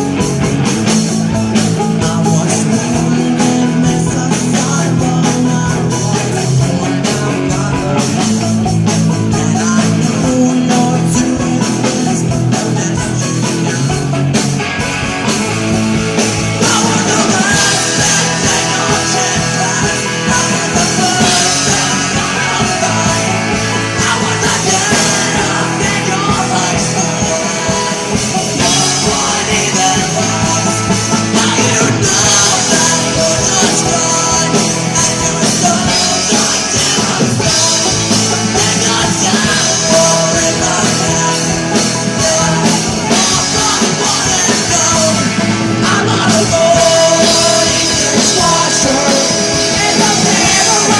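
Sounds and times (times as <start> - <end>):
drums: 0.0 - 50.9
electric guitars: 0.0 - 50.9
person singing: 0.0 - 50.9.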